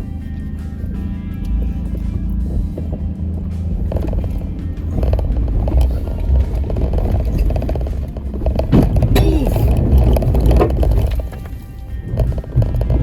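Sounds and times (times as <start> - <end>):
jeep engine under load: 0.0 - 13.0
chassis clunks and knocks: 1.5 - 13.0.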